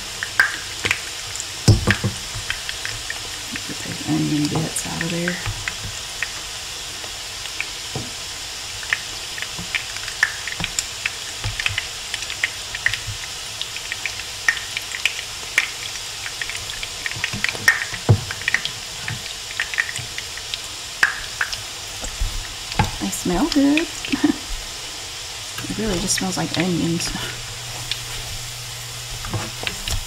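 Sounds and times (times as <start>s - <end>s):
grease crackling and popping: 0.0s - 30.0s
patties sizzling in hot oil: 0.0s - 30.0s.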